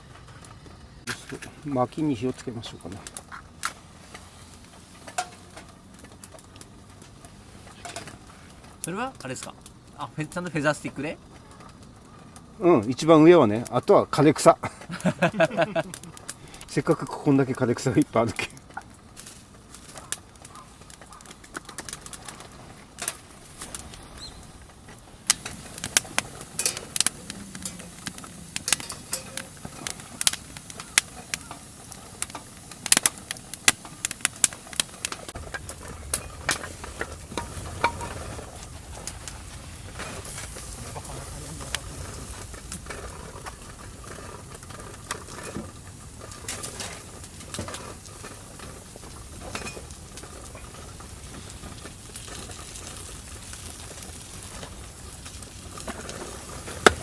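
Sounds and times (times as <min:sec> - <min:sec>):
kindling crackling and snapping: 0:00.0 - 0:57.0
low fire rumble: 0:00.0 - 0:57.0.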